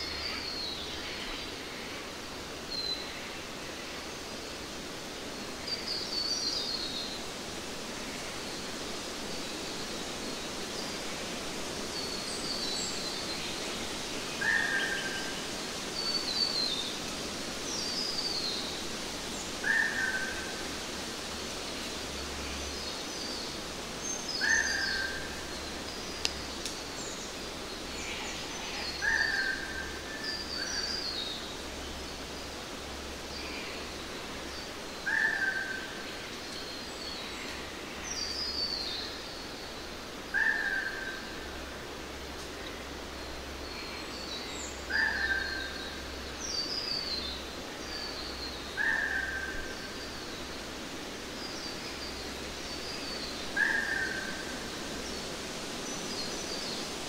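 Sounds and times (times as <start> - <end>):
background hiss: 0.0 - 57.0.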